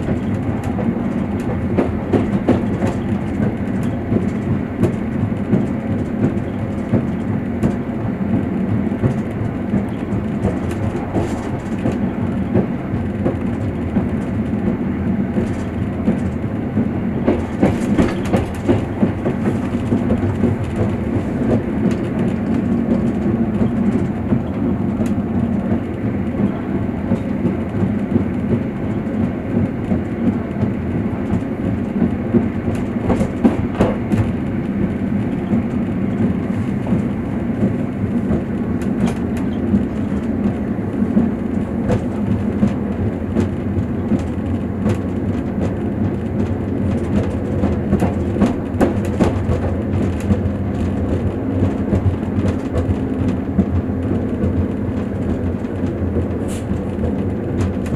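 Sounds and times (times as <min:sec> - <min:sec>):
train car rattling: 0:00.0 - 0:57.9
train low rumble: 0:00.0 - 0:57.9
train wheels clicking and knocking: 0:00.0 - 0:57.9.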